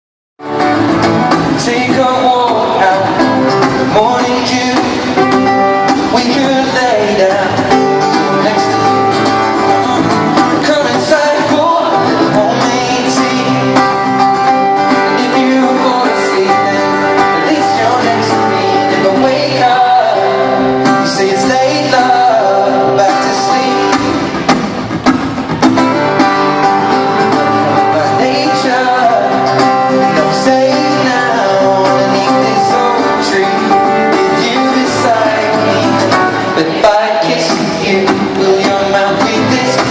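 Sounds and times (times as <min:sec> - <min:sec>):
acoustic guitar: 0:00.4 - 0:39.9
man singing: 0:01.4 - 0:24.4, 0:26.7 - 0:39.9.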